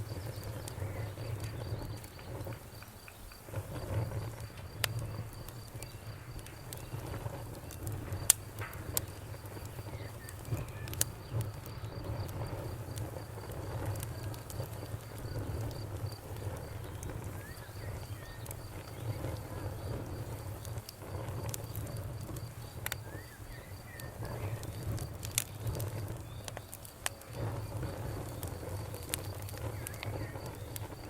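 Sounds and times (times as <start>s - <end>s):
bonfire crackling and popping: 0.0s - 31.0s
crickets chirping: 0.0s - 31.0s.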